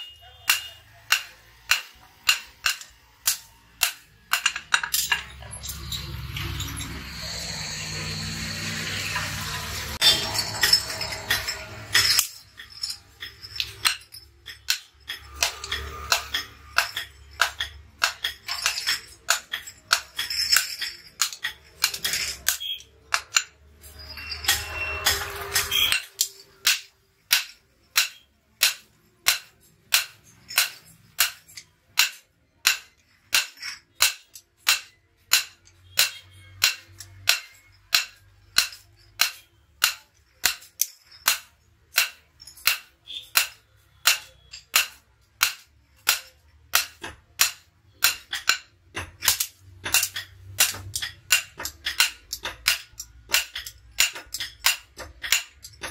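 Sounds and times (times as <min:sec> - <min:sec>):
hammer striking metal on anvil: 0:00.0 - 0:55.9.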